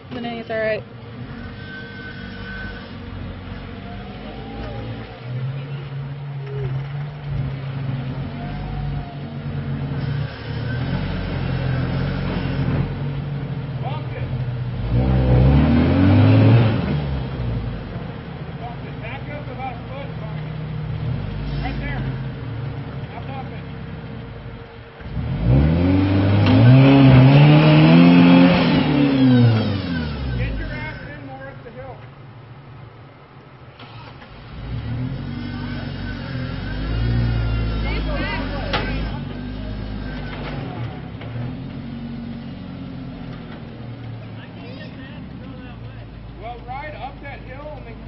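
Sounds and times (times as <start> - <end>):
pickup engine revving under load: 0.0 - 48.0.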